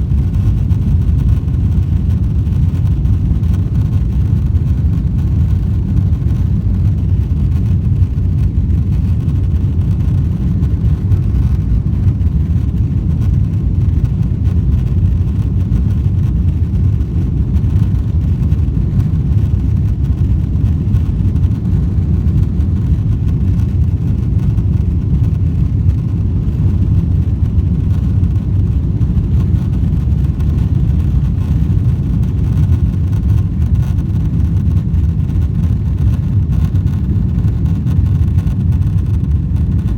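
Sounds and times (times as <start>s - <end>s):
vehicle rumble in motion: 0.0s - 39.9s.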